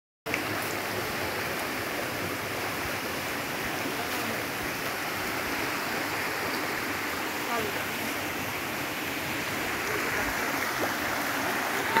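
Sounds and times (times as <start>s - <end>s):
stream running over rocks: 0.3s - 12.0s.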